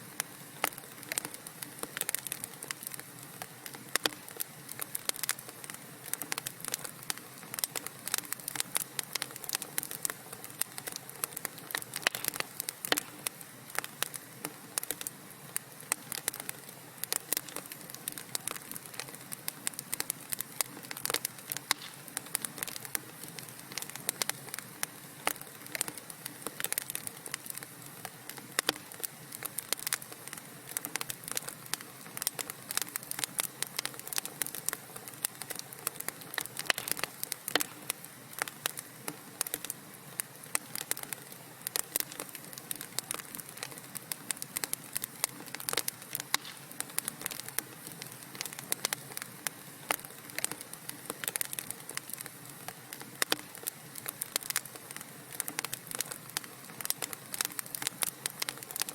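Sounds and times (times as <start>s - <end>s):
soft steady fire hiss: 0.0s - 58.9s
wood fire crackling and popping: 0.0s - 58.9s.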